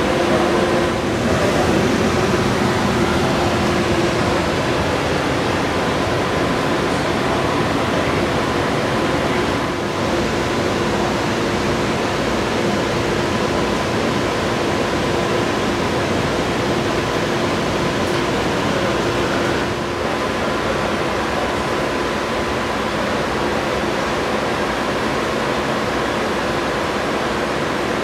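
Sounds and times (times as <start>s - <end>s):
rushing ventilation air: 0.0s - 28.0s.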